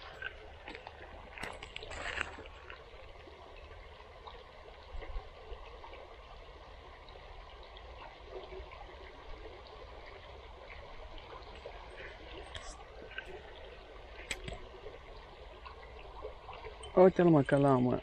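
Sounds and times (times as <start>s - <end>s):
water rippling over shallows: 0.0s - 18.0s.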